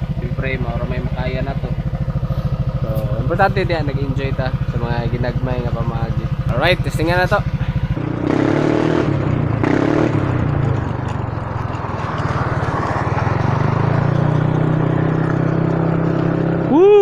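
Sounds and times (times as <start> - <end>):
scooter engine pulling away: 0.0 - 17.0.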